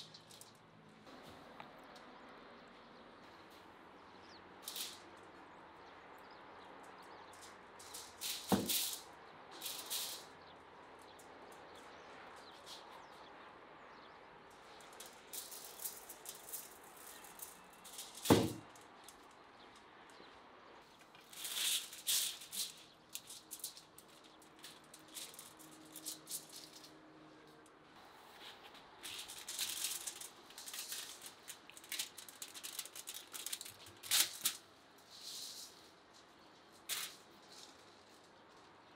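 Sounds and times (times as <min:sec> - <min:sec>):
rustling and scraping: 0:04.6 - 0:05.4, 0:06.9 - 0:13.5, 0:14.5 - 0:38.9.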